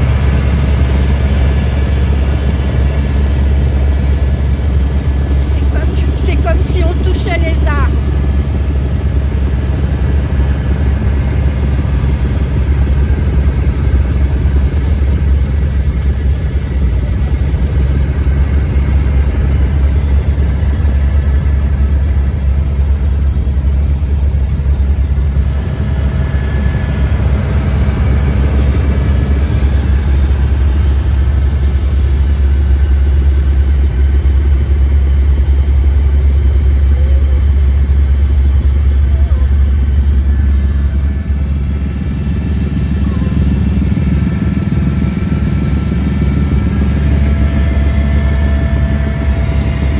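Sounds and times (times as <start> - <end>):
helicopter engine and rotor drone: 0.0 - 49.9.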